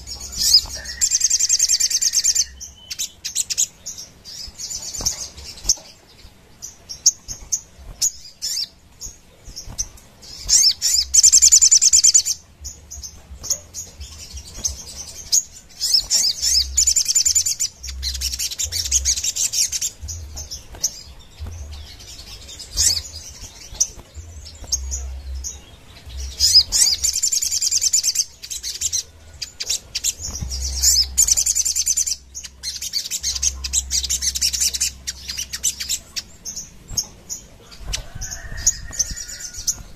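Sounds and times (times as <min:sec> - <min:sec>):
bird chirps: 0:00.0 - 0:39.9
bird singing trilling bursts: 0:00.0 - 0:39.9.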